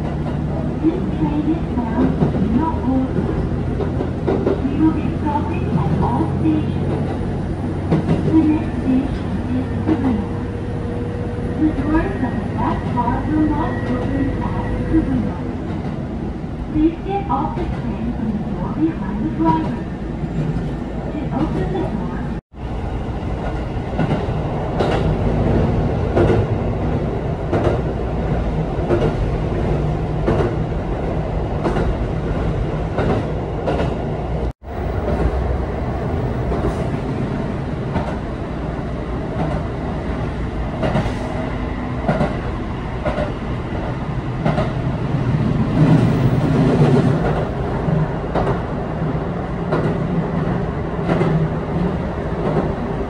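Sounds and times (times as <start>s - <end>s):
train low rumble: 0.0s - 53.0s.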